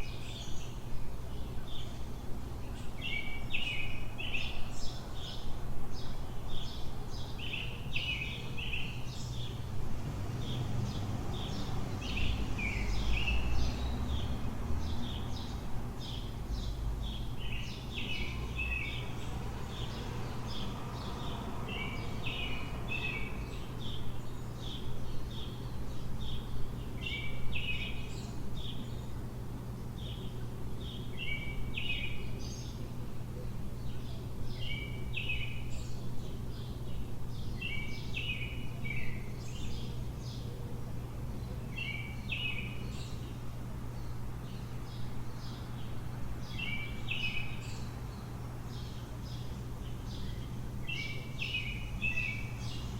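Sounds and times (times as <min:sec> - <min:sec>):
low city hum: 0:00.0 - 0:52.9
songbirds chirping and singing: 0:00.0 - 0:52.9
traffic rumble: 0:00.0 - 0:52.9.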